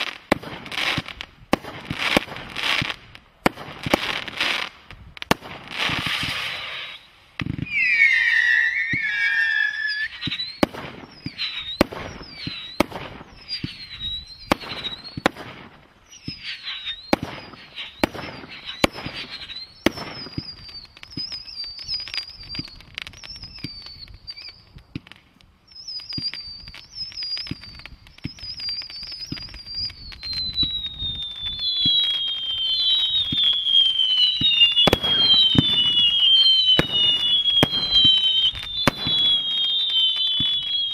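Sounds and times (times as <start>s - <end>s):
firework bangs and crackles: 0.0s - 40.9s
wavering firework whistles: 5.4s - 40.9s
long falling whistles: 6.0s - 15.3s, 16.0s - 24.8s, 25.7s - 40.9s.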